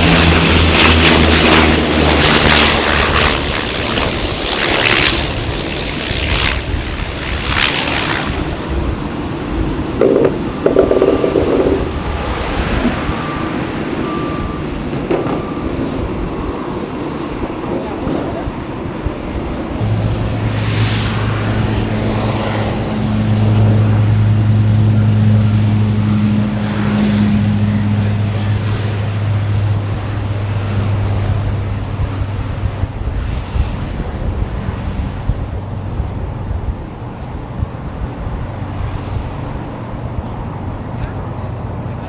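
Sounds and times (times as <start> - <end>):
rushing noise: 0.0 - 17.8, 19.7 - 36.5
low engine hum: 0.0 - 42.0.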